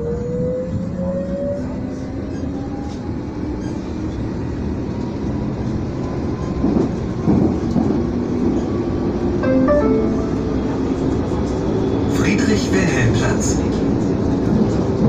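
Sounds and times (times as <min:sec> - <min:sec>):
train wheels rumbling on rails: 0:00.0 - 0:09.4, 0:10.8 - 0:15.0.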